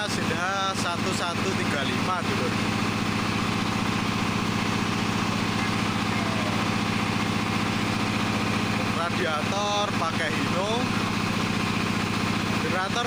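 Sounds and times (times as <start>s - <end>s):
diesel generator engine running: 0.0s - 13.0s.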